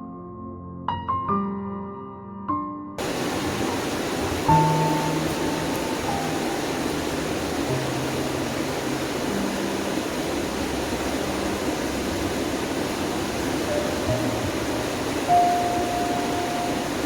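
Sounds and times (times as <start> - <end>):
soft background music: 2.1 - 17.0
waterfall rushing: 3.0 - 17.0.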